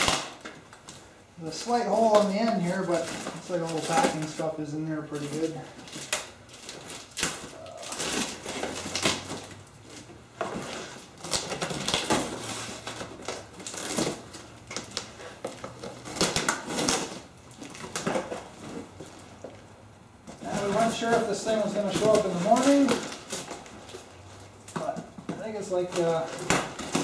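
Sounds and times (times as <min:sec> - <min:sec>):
cardboard and packing material rustling: 0:00.0 - 0:27.0.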